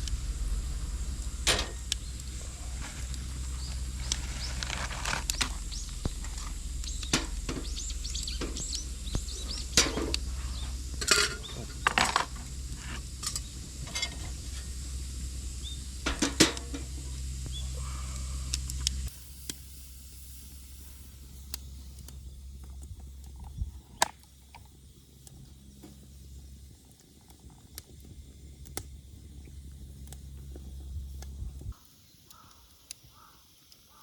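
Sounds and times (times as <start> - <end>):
low steady rumble: 0.0 - 31.8
wood fire crackling and popping: 0.0 - 33.9.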